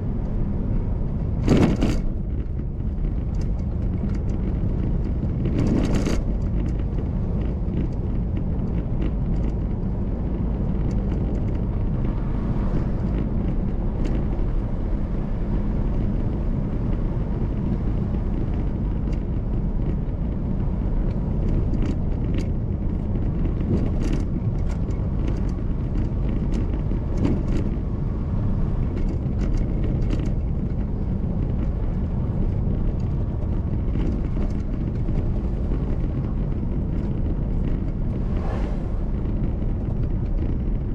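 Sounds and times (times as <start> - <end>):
car engine and tyre rumble: 0.0 - 40.9
small clicks and rattles: 1.4 - 14.6, 15.9 - 38.2.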